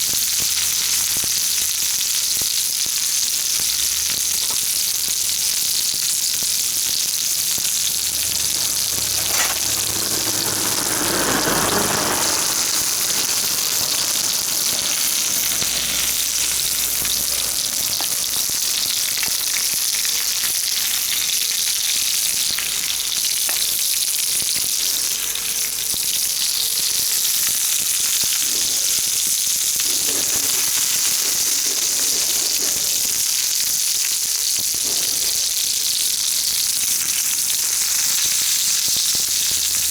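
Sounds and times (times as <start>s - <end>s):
mushrooms sizzling in oil: 0.0s - 39.9s.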